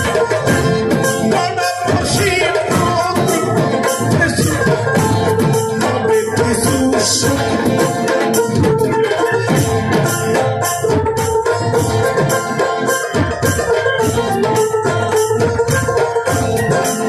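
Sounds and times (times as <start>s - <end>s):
folk band playing: 0.0s - 17.0s
hand drums: 0.0s - 17.0s.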